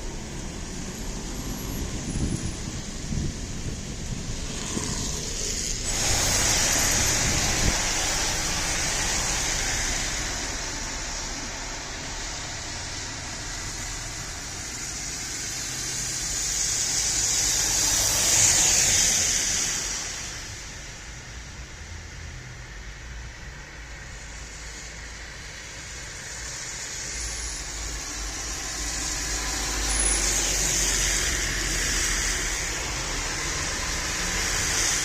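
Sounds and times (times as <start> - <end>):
road traffic noise: 0.0 - 35.0
vehicles passing: 0.0 - 35.0.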